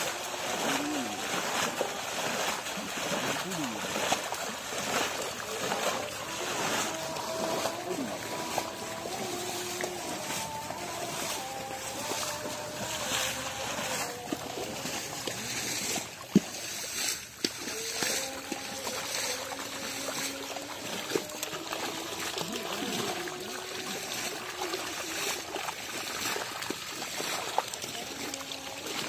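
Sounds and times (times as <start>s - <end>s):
fish splashing in shallow water: 0.0s - 29.0s.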